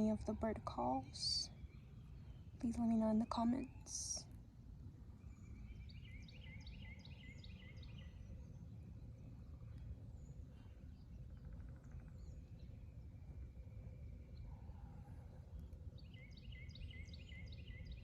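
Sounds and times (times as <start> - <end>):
faint low background rumble: 0.0 - 18.0.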